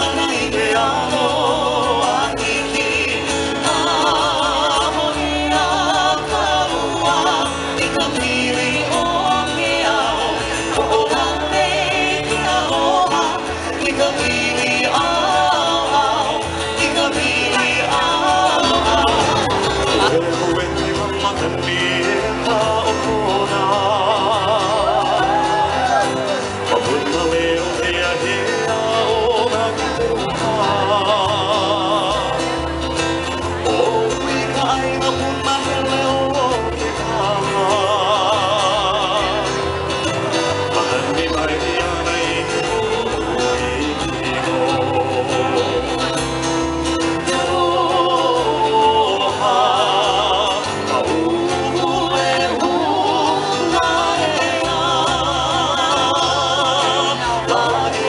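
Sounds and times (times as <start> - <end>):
bass: 0.0 - 58.0
guitar: 0.0 - 58.0
person singing with vibrato: 0.0 - 58.0.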